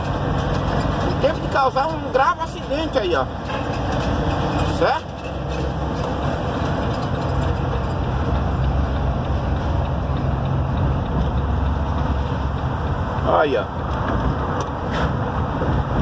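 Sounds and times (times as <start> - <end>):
low engine drone: 0.0 - 16.0
road noise: 0.0 - 16.0.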